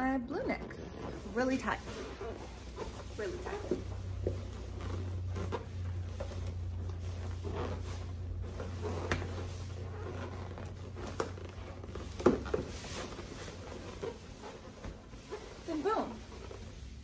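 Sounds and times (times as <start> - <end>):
balloons rubbing and squeaking: 0.0 - 17.0
short rustles and light clicks: 0.0 - 17.0
steady low hum: 0.0 - 17.0.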